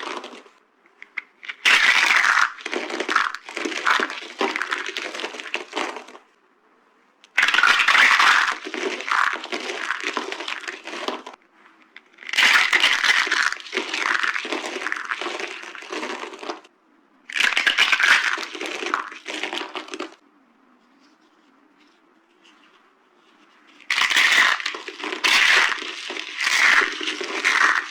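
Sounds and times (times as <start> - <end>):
soap crunching and crackling: 0.0 - 6.3, 7.3 - 16.7, 17.3 - 20.2, 23.3 - 27.9.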